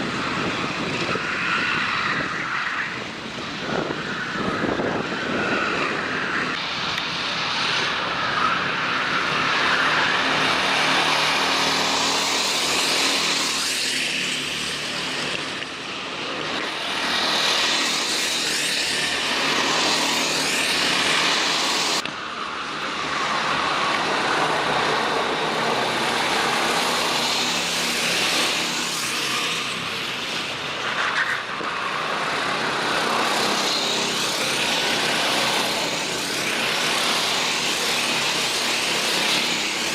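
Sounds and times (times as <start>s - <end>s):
kart engines running at speed: 0.0s - 39.9s.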